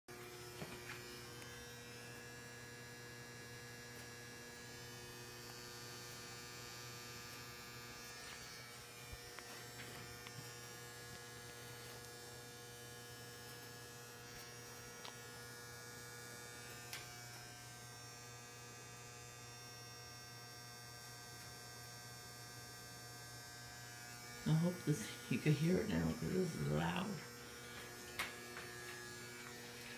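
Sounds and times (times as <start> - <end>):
boiler buzzing hum: 0.1 - 29.9.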